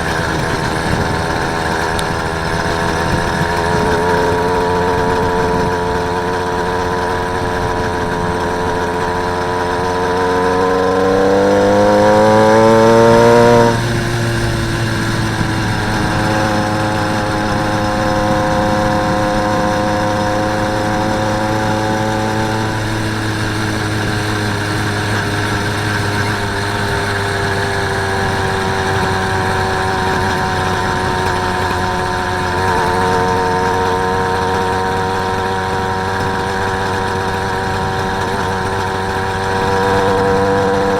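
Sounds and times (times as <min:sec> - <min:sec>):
motorised bicycle engine running: 0:00.0 - 0:40.9.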